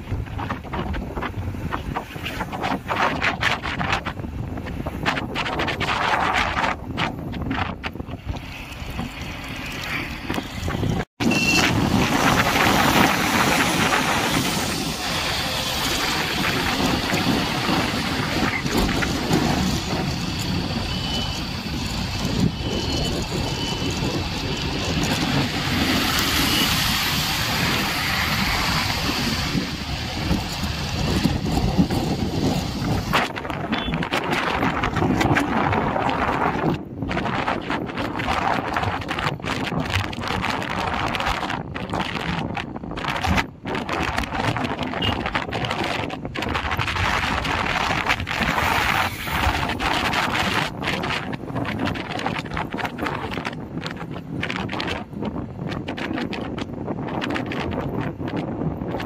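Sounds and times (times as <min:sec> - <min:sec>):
road and wind rush: 0:00.0 - 0:59.0
wind buffeting microphone: 0:00.0 - 0:59.0.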